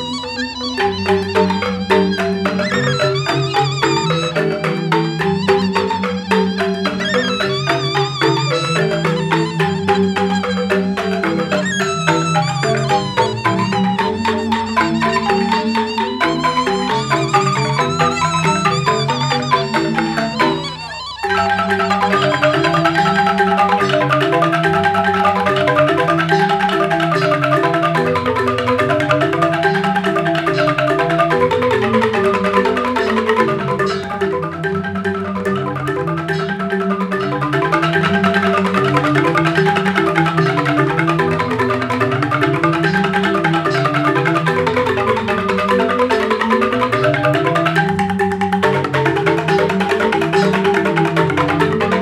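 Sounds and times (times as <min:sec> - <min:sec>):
bamboo xylophone ensemble: 0:00.0 - 0:52.0.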